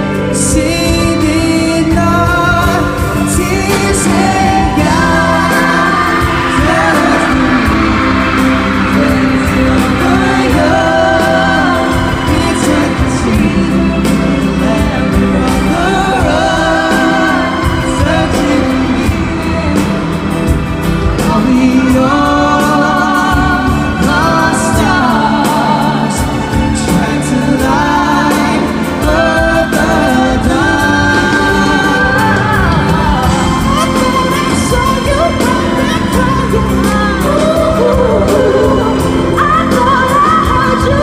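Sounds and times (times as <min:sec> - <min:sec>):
backing band playing: 0:00.0 - 0:41.0
man and woman singing a duet: 0:00.0 - 0:41.0.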